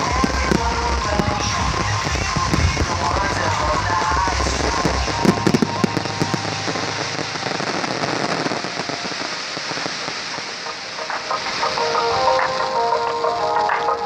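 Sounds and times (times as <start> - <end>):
fireworks crackling: 0.0 - 14.0
fireworks pops and bangs: 0.0 - 14.0.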